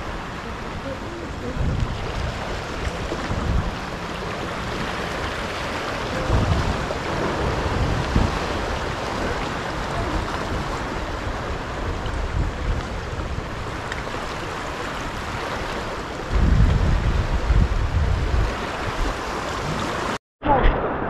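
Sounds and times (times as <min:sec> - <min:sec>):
rain falling: 0:00.0 - 0:16.9
wind gusting on microphone: 0:00.0 - 0:21.0.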